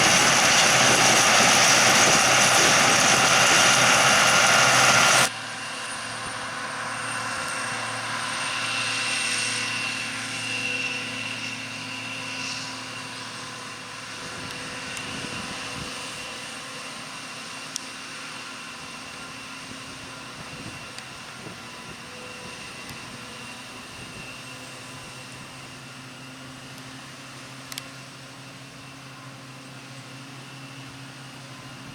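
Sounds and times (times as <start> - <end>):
harvest machinery engine drone: 0.0 - 31.9.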